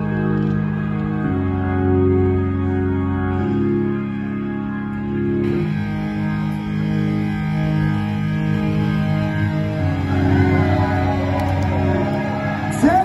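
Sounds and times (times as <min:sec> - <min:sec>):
low steady bass tone: 0:00.0 - 0:13.0
sustained guitar chords: 0:00.0 - 0:13.0.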